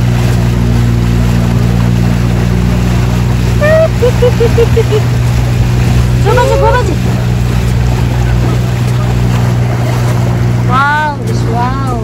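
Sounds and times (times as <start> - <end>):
motorboat engine droning: 0.0 - 12.0
water noise: 0.0 - 12.0
wind: 0.0 - 12.0.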